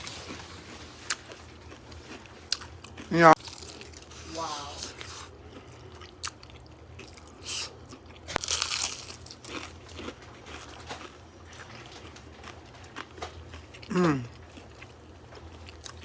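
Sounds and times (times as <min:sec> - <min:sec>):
crunchy food being chewed: 0:00.0 - 0:16.0.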